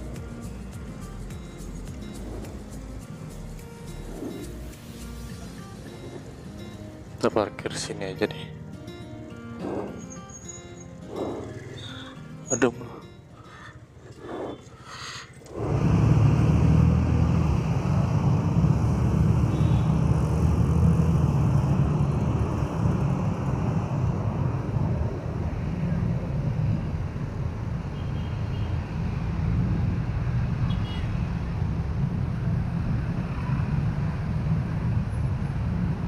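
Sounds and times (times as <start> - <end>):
vehicle rumble: 0.0 - 36.0.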